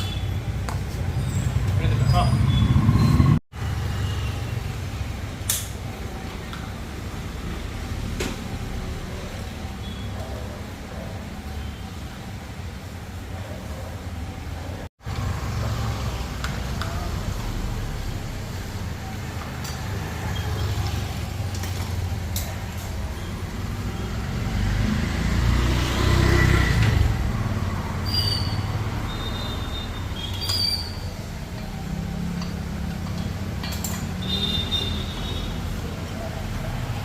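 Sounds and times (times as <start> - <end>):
road traffic: 0.0 - 37.0.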